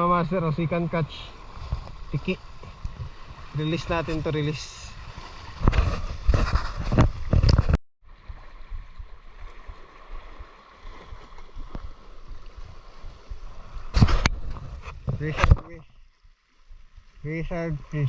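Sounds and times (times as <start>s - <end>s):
moving water: 0.0s - 18.0s.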